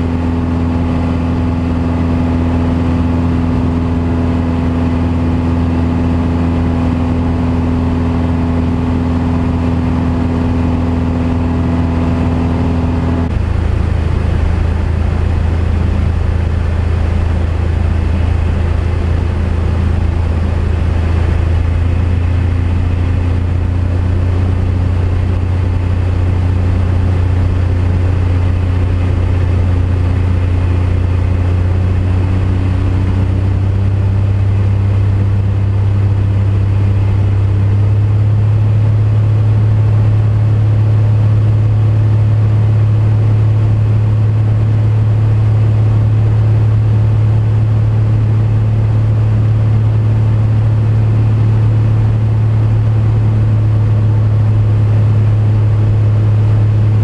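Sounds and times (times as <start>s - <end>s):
light aircraft engine humming: 0.0s - 57.0s.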